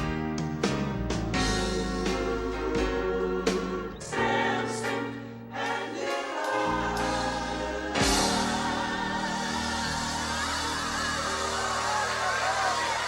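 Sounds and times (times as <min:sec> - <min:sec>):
choir singing gospel music: 0:00.0 - 0:13.0.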